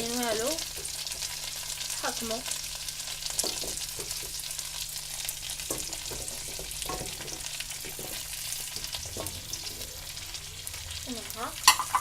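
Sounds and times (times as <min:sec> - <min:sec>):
butter sizzling in a pot: 0:00.0 - 0:12.0.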